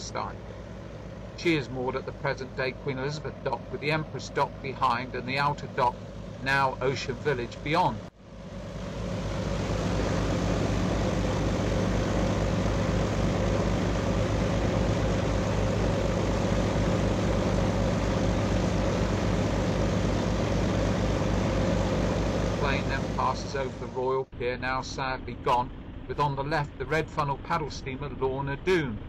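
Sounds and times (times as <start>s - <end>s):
propeller engines droning: 0.0s - 29.0s.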